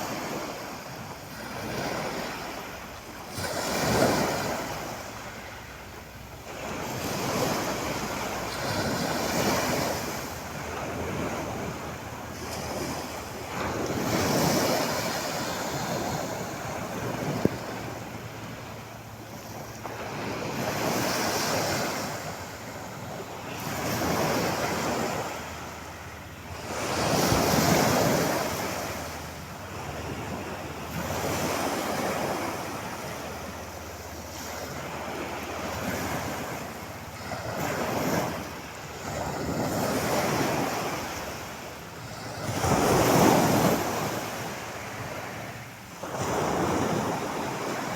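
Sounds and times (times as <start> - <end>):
sea waves breaking on shore: 0.0 - 47.9.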